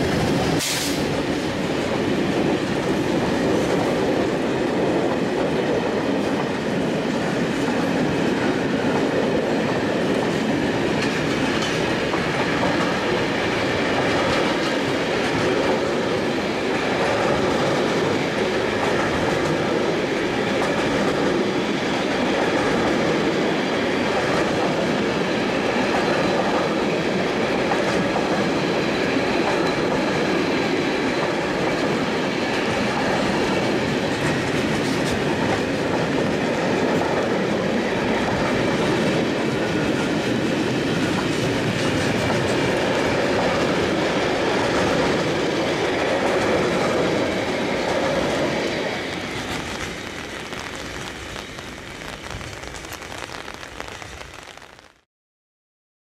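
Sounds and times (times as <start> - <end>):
freight train rolling past: 0.0 - 54.7.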